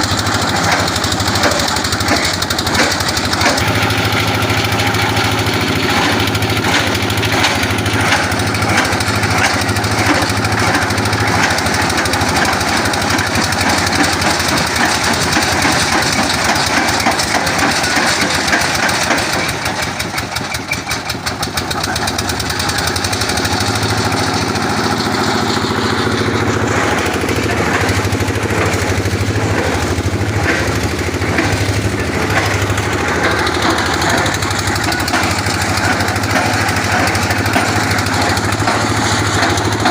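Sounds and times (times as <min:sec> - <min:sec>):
engine running with fast pulsing: 0:00.0 - 0:39.9.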